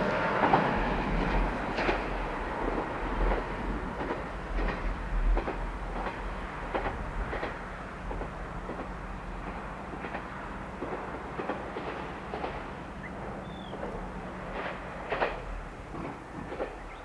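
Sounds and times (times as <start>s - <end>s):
train running hum: 0.0s - 17.0s
wheels clacking on track: 0.0s - 17.0s.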